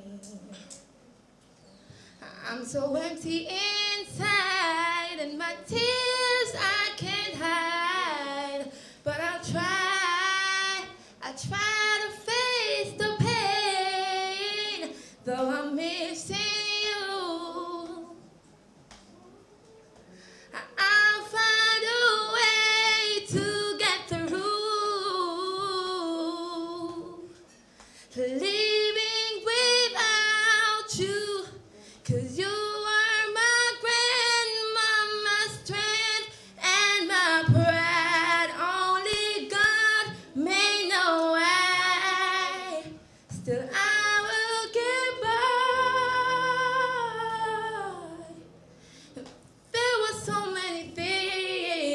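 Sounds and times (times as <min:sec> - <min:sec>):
woman singing: 0:02.2 - 0:18.2, 0:20.6 - 0:27.4, 0:28.1 - 0:48.4, 0:49.2 - 0:51.9.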